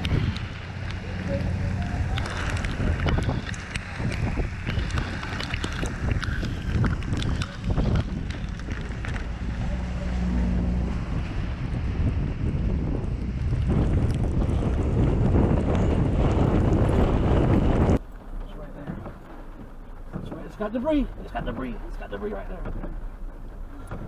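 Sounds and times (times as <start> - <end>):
gusty wind buffeting microphone: 0.0 - 24.0.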